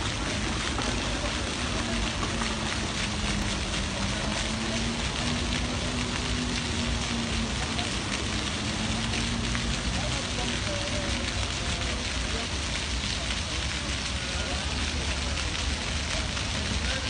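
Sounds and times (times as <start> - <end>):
fountain jets splashing into pool: 0.0 - 17.0.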